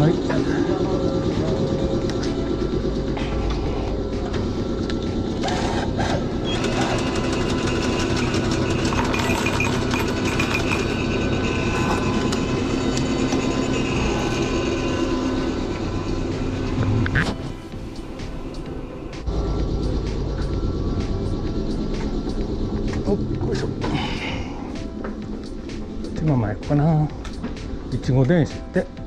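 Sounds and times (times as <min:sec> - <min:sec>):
railcar machinery pulsing hum: 0:00.0 - 0:29.0.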